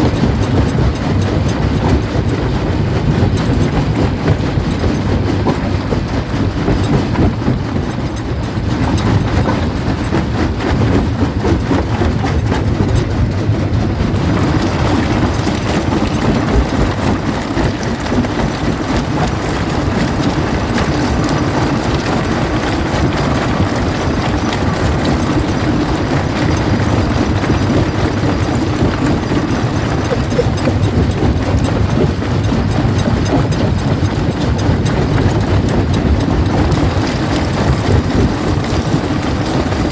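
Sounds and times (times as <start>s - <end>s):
jaw crusher rumble: 0.0s - 39.9s.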